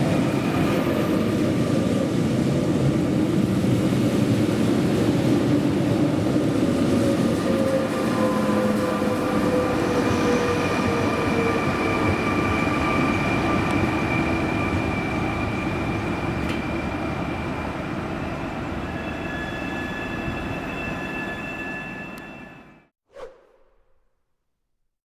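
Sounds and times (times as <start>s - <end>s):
train wheels rumbling on rails: 0.0s - 22.0s
electric train whine: 0.0s - 22.9s.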